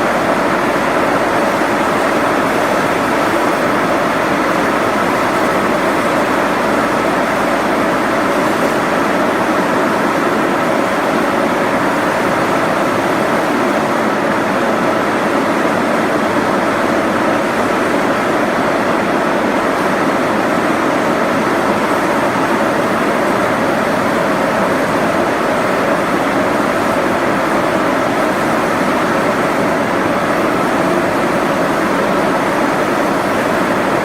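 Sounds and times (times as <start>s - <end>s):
machinery noise with hum: 0.0s - 34.0s.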